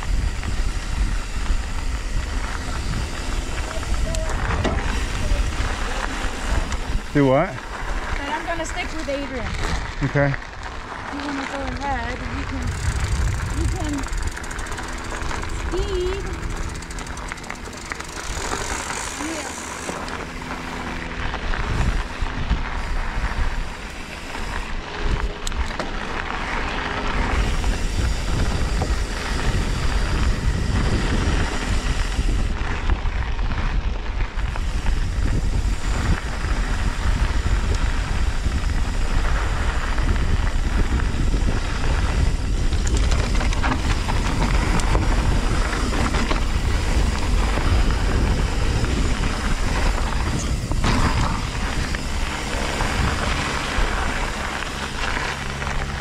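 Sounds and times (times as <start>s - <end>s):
bike tyre and frame noise: 0.0s - 56.0s
wind rumble on microphone: 0.0s - 56.0s.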